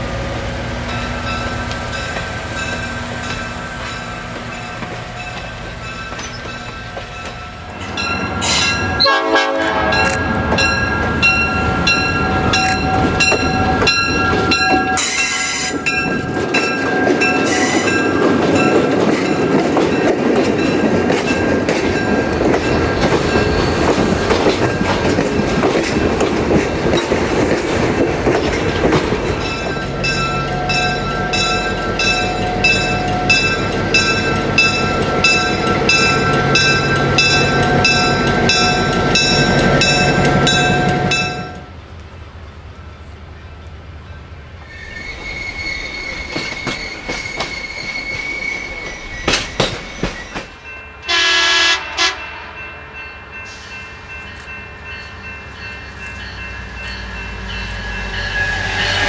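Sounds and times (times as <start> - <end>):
passenger train rumbling past: 0.0 - 59.0.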